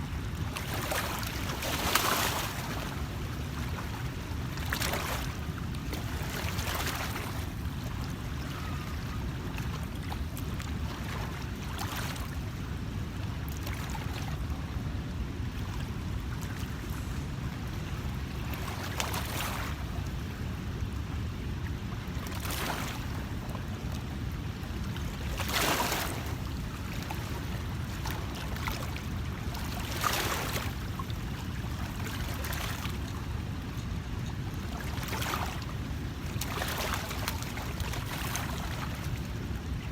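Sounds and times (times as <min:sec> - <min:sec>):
water lapping: 0:00.0 - 0:14.9, 0:15.5 - 0:20.3, 0:22.2 - 0:39.7
wind rumble on microphone: 0:00.0 - 0:39.9.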